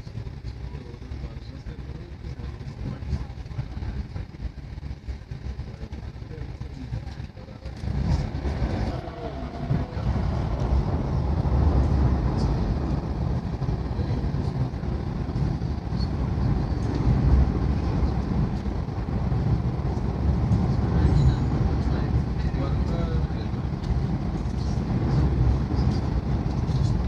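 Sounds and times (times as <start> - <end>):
train rumbling over bridge: 0.0 - 27.0.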